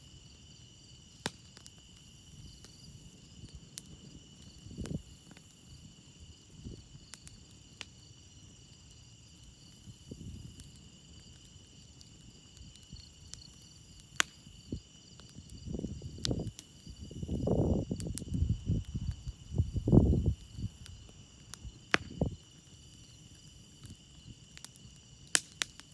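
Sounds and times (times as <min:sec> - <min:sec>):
crickets chirping: 0:00.0 - 0:25.9
campfire crackling: 0:00.1 - 0:25.9.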